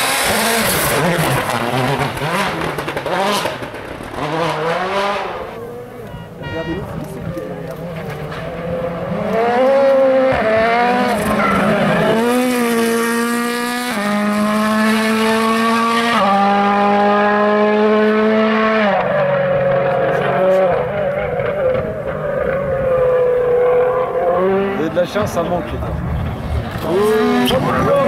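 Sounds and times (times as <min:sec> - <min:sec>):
rally car engine accelerating: 0:00.0 - 0:06.2, 0:06.9 - 0:28.0.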